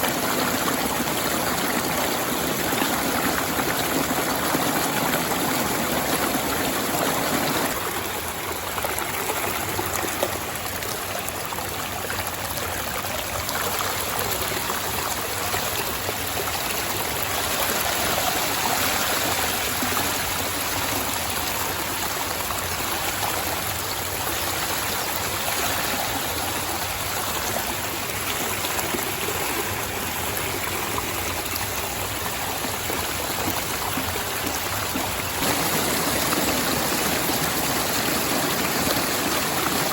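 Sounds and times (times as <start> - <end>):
river water rushing: 0.0 - 11.4, 12.9 - 39.9.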